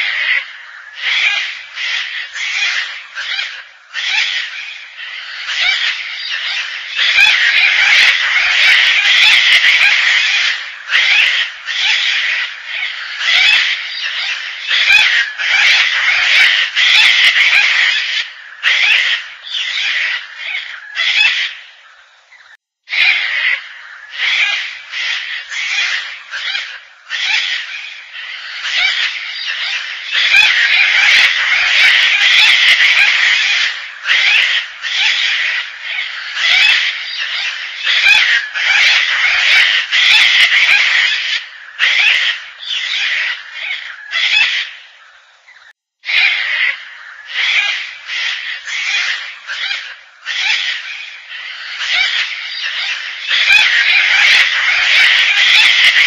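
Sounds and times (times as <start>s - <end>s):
cockatoo calling: 0.0s - 21.7s, 22.4s - 56.0s.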